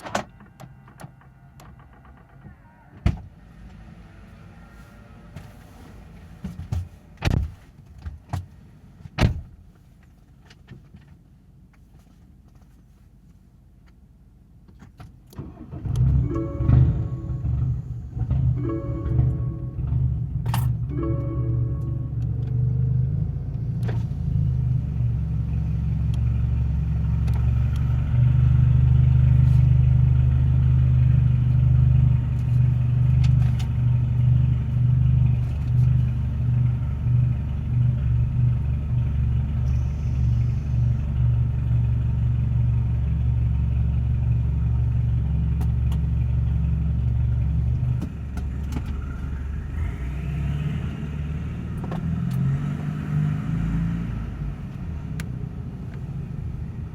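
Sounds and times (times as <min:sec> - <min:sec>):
engine whine: 0:00.0 - 0:05.5, 0:15.4 - 0:56.9
car engine droning: 0:00.0 - 0:07.3, 0:15.3 - 0:56.9.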